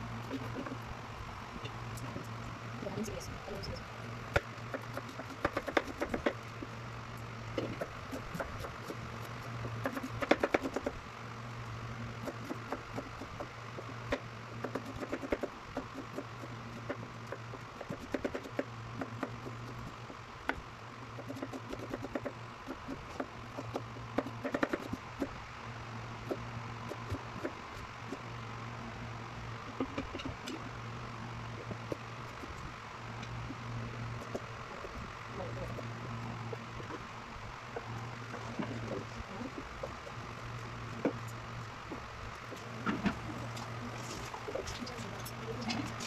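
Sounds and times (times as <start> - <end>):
low hum: 0.0 - 18.0, 18.6 - 46.0.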